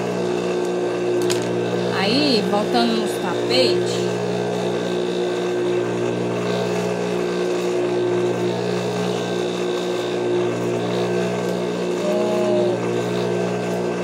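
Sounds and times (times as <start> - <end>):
sewing machine motor humming: 0.0 - 14.0.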